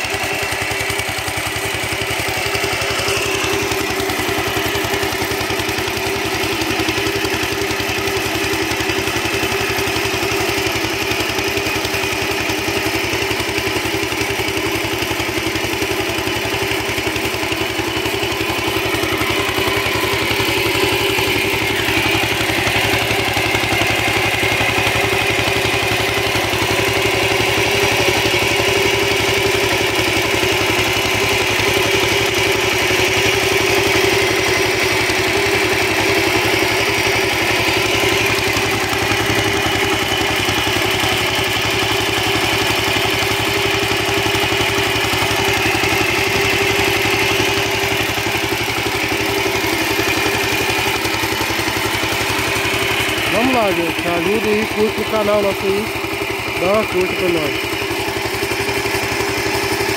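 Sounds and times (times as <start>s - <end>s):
small stationary engine running: 0.0s - 59.9s.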